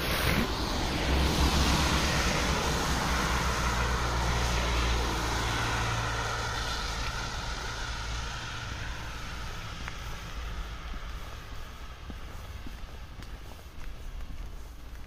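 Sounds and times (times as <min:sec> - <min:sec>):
car driving past on wet road: 0:00.0 - 0:13.3.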